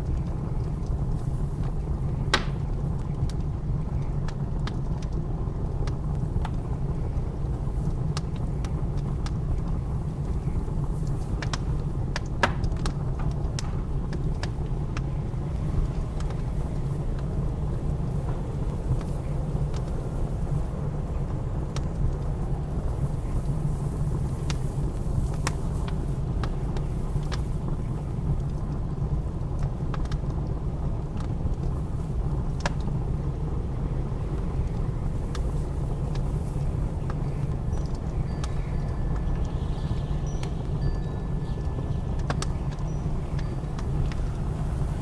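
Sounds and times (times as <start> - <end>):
low rumble of blizzard wind: 0.0 - 45.0
wood fire crackling and popping: 0.0 - 45.0.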